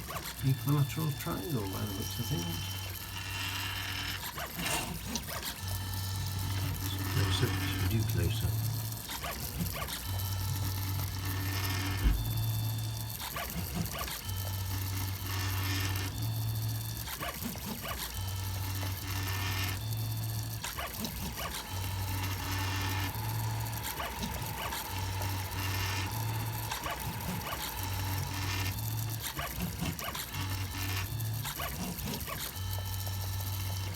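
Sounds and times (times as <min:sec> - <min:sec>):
stepper motors whirring: 0:00.0 - 0:33.9.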